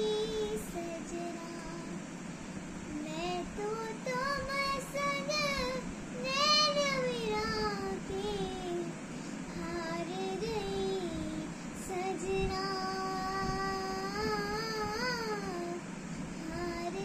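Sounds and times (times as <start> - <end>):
girl singing: 0.0 - 2.1, 2.9 - 17.0.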